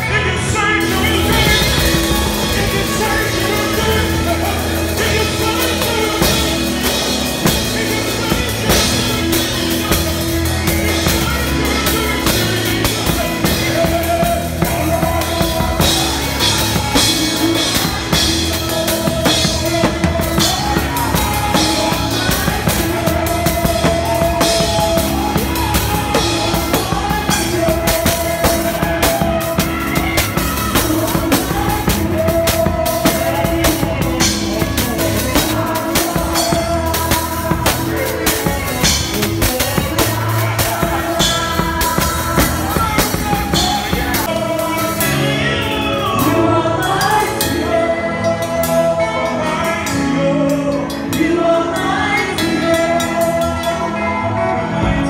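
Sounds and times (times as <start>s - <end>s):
drum kit played busily: 0.0s - 55.0s
live band music: 0.0s - 55.0s.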